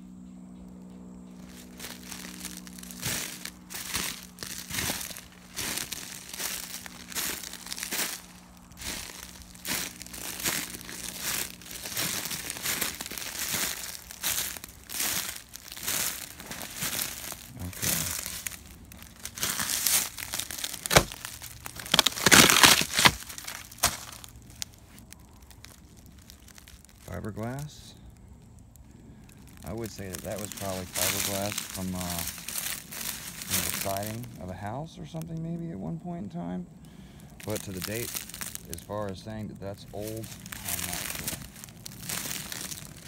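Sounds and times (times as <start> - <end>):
footsteps crunching dry leaves: 0.6 - 36.0, 36.8 - 43.0.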